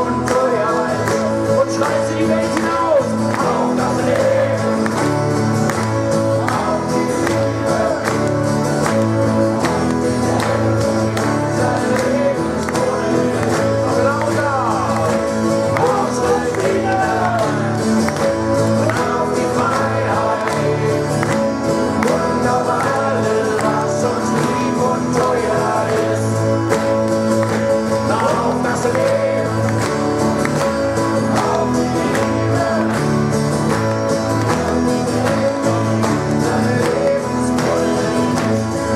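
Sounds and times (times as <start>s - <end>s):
guitars: 0.0s - 38.9s
live rock band playing: 0.0s - 38.9s
person singing: 0.0s - 38.9s.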